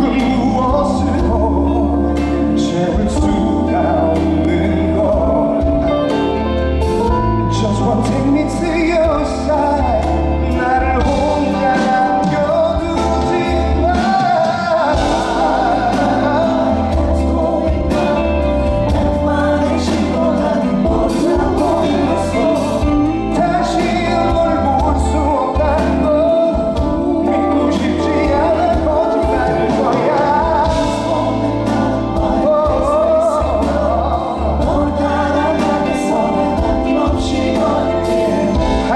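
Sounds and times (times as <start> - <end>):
band playing pop ballad: 0.0 - 38.9
man singing: 0.0 - 38.9.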